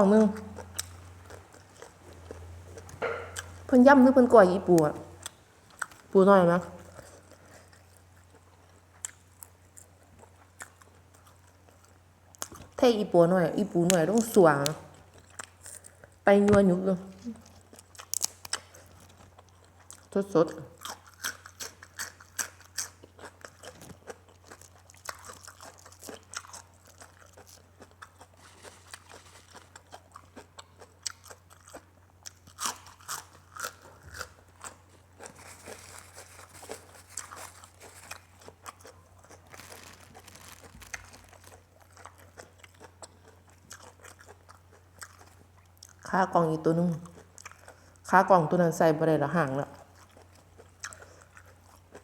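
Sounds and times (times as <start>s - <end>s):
faint low hum: 0.0s - 52.0s
person chewing crunchy food: 0.1s - 3.7s, 5.1s - 6.2s, 6.8s - 12.8s, 14.1s - 16.2s, 17.2s - 46.1s, 47.0s - 48.0s, 49.8s - 52.0s.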